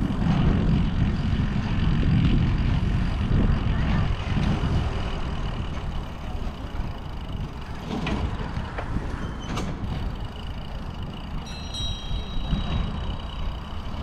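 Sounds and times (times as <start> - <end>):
passing road traffic: 0.0 - 14.0
wind rumble: 0.0 - 14.0.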